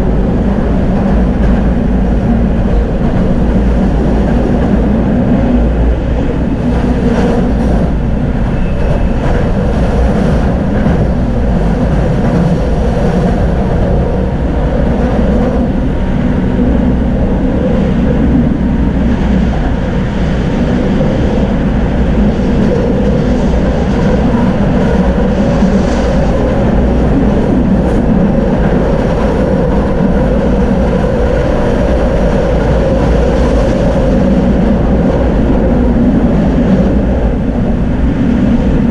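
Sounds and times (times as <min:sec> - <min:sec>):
tram drive hum: 0:00.0 - 0:38.9
tram wheels rumbling on rails: 0:00.0 - 0:38.9.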